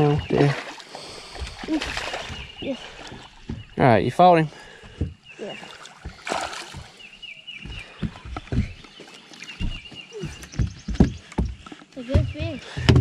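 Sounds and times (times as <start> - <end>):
knocks and thumps on boat: 0.0 - 0.8, 1.4 - 13.0
songbird chirping: 0.0 - 13.0.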